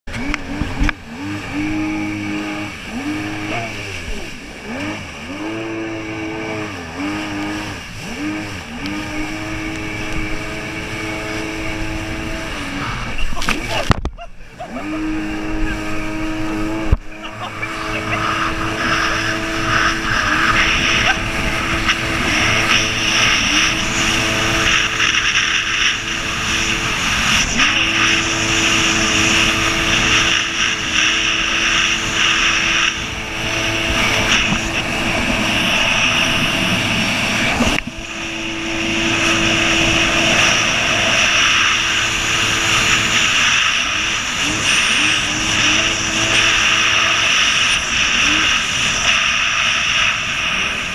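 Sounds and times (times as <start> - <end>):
jet ski engine running: 0.0 - 50.9
wind and water spray rushing: 0.1 - 50.9.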